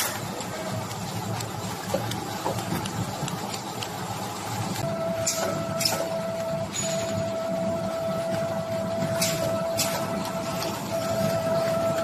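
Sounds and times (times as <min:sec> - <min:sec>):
packaging machine humming and whining: 0:00.0 - 0:12.0.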